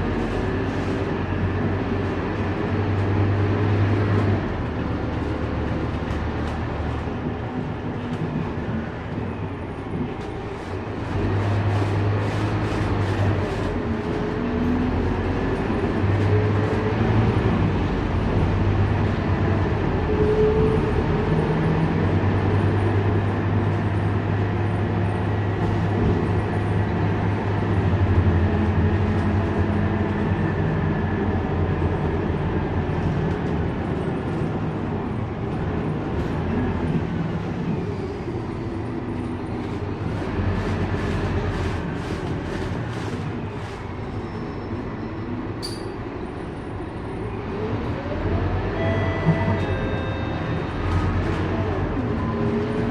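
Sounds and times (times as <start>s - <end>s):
bus diesel engine: 0.0s - 52.9s.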